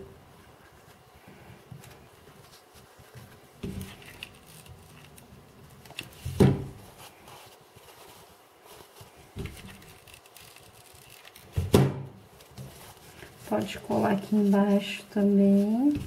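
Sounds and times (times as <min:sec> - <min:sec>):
fabric rustling: 0:00.0 - 0:16.0.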